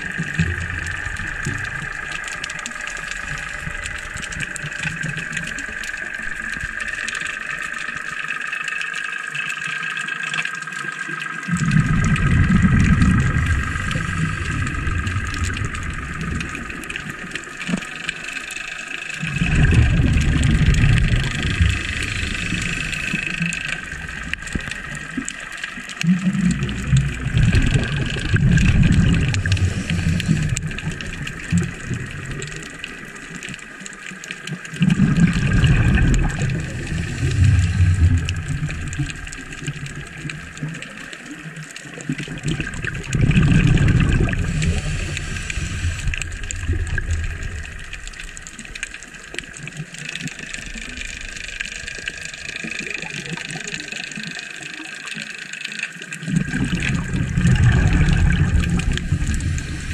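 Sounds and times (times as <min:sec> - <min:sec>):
underwater exhaled bubbles gurgling: 0:00.0 - 0:59.9.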